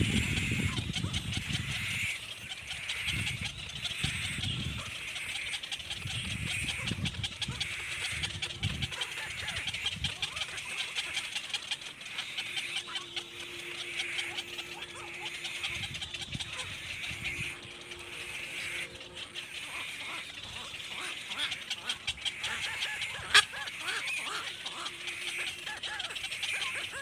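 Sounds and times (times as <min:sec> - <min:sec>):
young bird chirping: 0:00.1 - 0:27.0.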